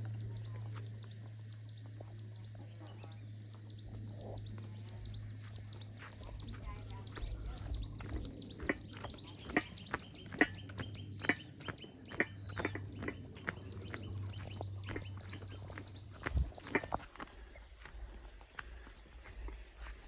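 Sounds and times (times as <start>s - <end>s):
insects chirping: 0.0s - 20.0s
footsteps on stony path: 3.2s - 20.0s.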